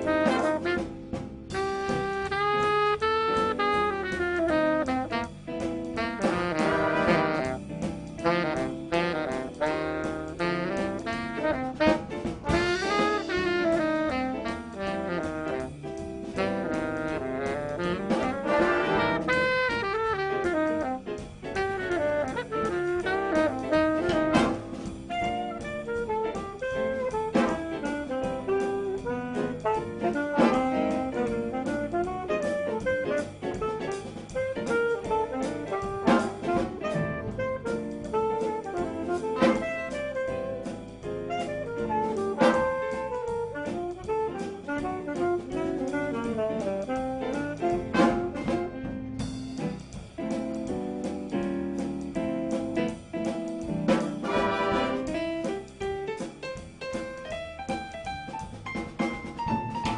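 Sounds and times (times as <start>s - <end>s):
saxophones and brass melody: 0.0s - 51.2s, 52.2s - 55.9s
drum kit: 0.0s - 59.9s
jazz band playing: 0.0s - 59.9s.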